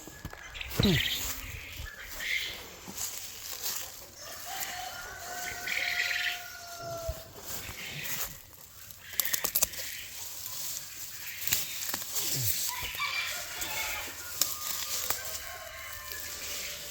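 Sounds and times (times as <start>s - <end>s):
poultry calling: 0.0s - 16.9s.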